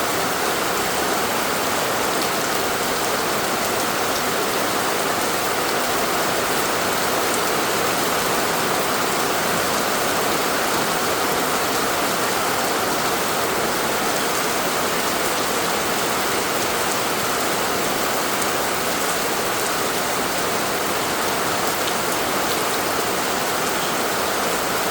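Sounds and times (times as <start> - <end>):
heavy rain pattering: 0.0 - 24.9.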